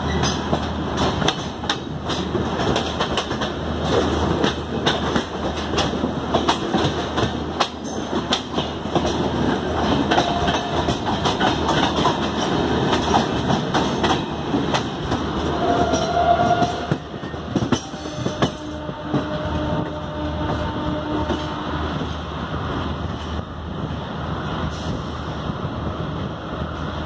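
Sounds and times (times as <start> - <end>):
wheels clacking over rail joints: 0.0 - 22.2
train rumble: 0.0 - 27.0.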